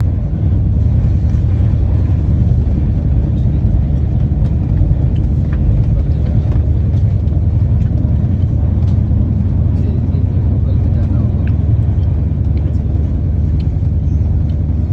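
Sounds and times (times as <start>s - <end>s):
train rumble inside coach: 0.0s - 14.9s
light ticks and rattles: 1.0s - 14.9s.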